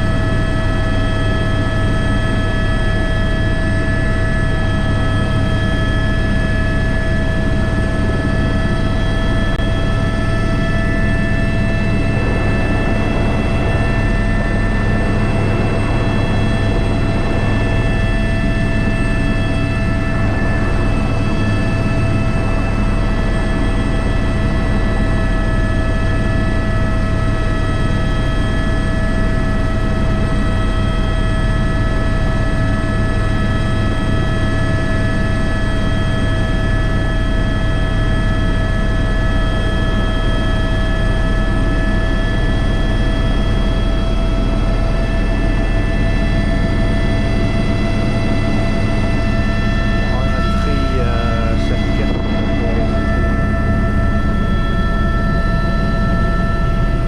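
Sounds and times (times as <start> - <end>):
helicopter turbine whine: 0.0 - 57.0
rotor drone: 0.0 - 57.0.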